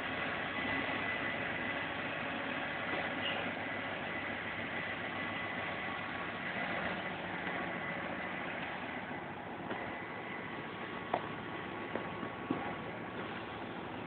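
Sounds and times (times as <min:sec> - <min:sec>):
diesel locomotive engine running: 0:00.0 - 0:14.0.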